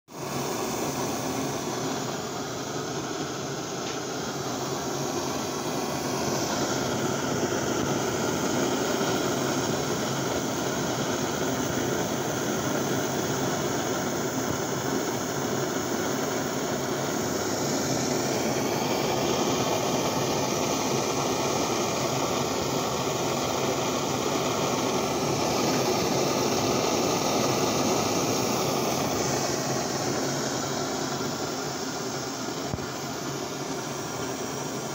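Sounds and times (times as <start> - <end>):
pressure stove burner rushing: 0.1 - 34.9.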